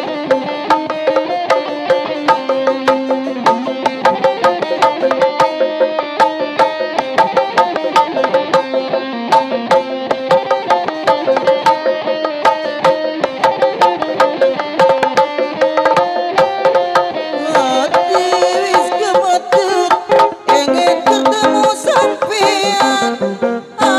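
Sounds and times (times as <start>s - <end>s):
quick drum strokes: 0.0s - 23.0s
nasal reed shawm melody: 0.0s - 23.9s.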